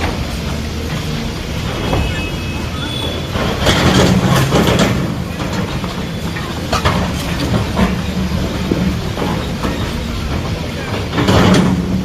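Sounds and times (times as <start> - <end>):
diesel machinery engine drone: 0.0 - 12.0.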